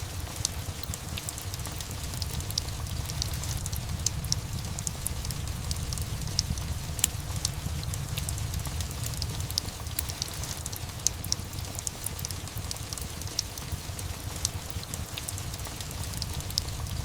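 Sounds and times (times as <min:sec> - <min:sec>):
fire crackling: 0:00.0 - 0:17.0
steady rain: 0:00.0 - 0:17.0.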